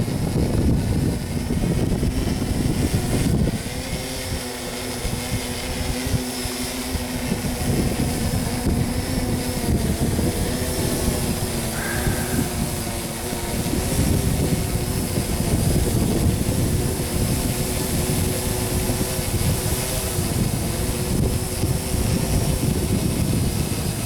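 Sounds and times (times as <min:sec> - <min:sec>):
drone propellers humming: 0:00.0 - 0:24.0
wind buffeting microphone: 0:00.0 - 0:24.0.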